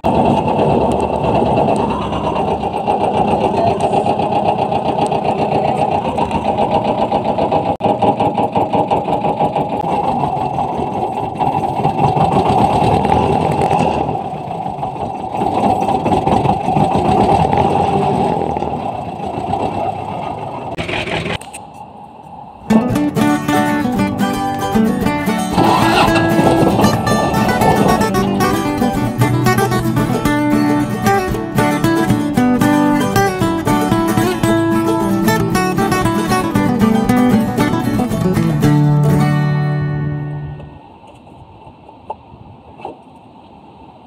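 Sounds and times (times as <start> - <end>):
dumper engine clattering: 0.0 - 21.4, 22.7 - 40.9.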